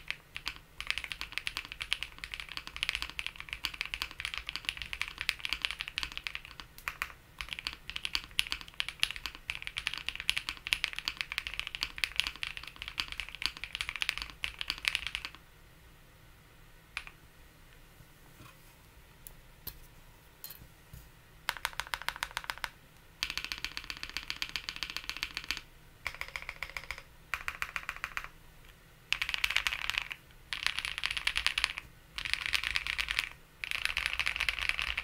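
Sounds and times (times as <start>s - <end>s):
mechanical keyboard typing: 0.0s - 15.4s, 17.0s - 17.2s, 21.5s - 28.4s, 29.1s - 35.0s.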